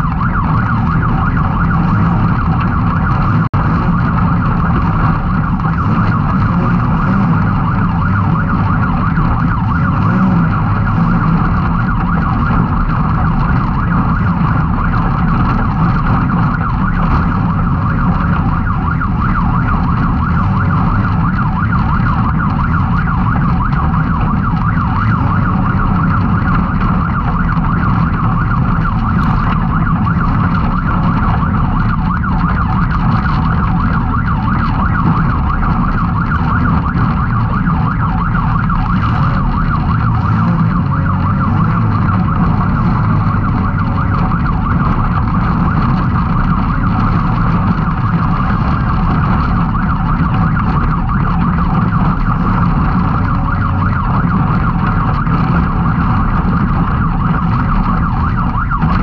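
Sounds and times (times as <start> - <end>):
engine high whine: 0.0 - 59.0.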